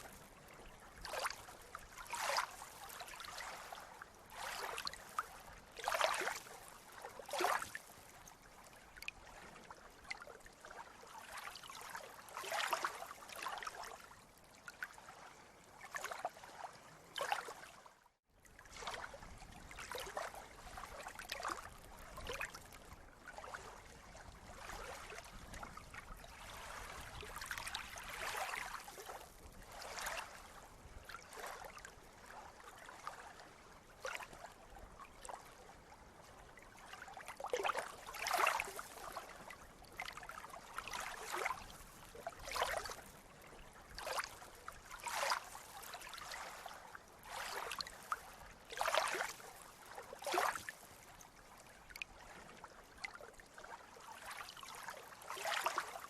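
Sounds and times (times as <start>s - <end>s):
small waves lapping and splashing: 0.0s - 56.0s.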